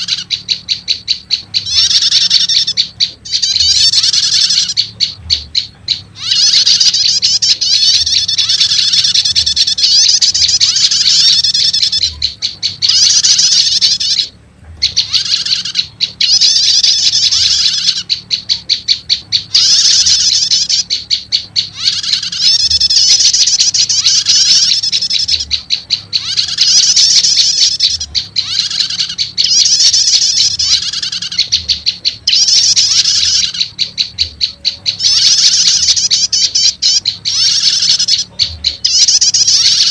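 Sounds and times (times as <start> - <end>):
high rattling bird chirps: 0.0 - 39.9.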